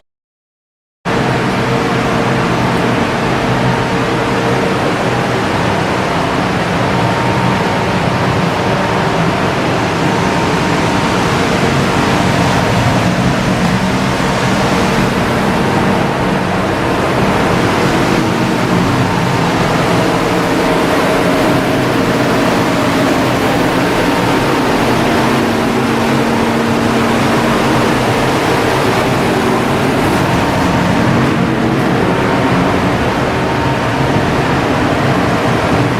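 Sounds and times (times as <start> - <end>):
engine room machinery running: 1.1 - 35.9
faint steady whine: 1.1 - 35.9.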